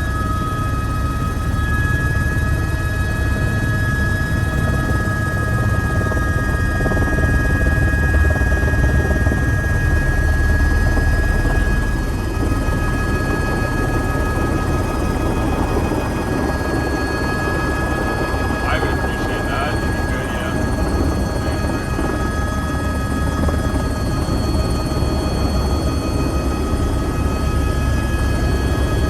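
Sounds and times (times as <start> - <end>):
turbine whine: 0.0 - 29.0
helicopter rotor chop: 4.6 - 29.0.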